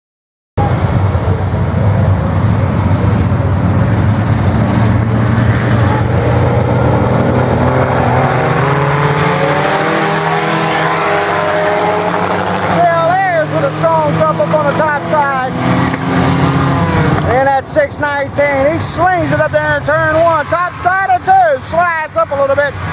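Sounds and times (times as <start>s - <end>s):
race car engines droning: 0.6s - 22.9s.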